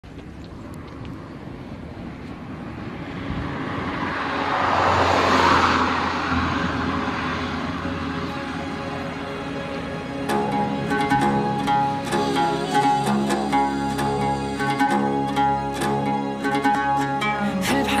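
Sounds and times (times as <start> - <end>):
street traffic: 0.0 - 18.0
vehicle passing close: 0.6 - 18.0.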